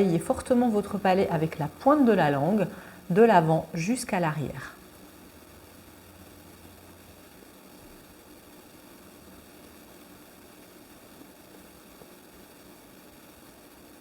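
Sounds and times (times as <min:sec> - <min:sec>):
faint background hiss: 0:00.0 - 0:14.0
faint constant tones: 0:00.0 - 0:14.0.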